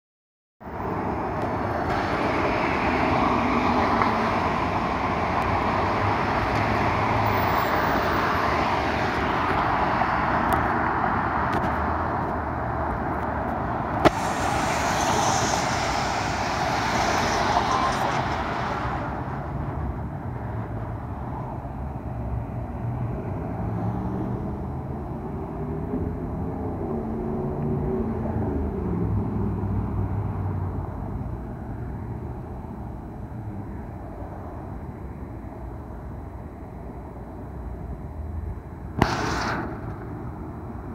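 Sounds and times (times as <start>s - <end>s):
street traffic: 0.6s - 40.9s.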